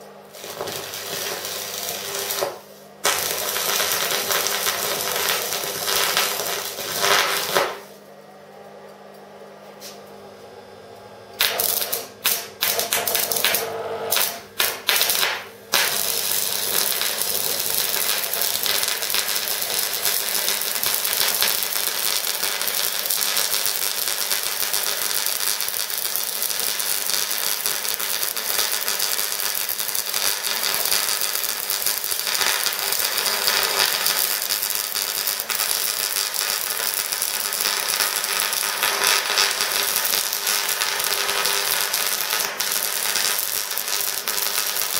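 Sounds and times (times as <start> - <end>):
welding arc crackling: 0.0 - 8.0, 11.4 - 44.9.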